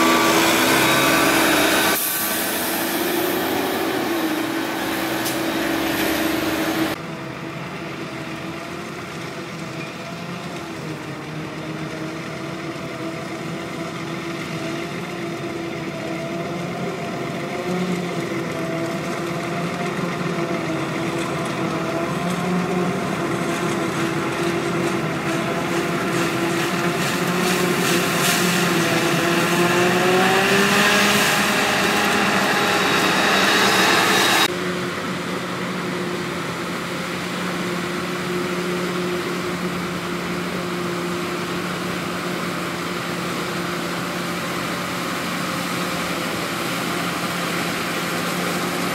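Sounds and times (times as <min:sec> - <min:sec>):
forage harvester engine hum: 0:00.0 - 0:48.9.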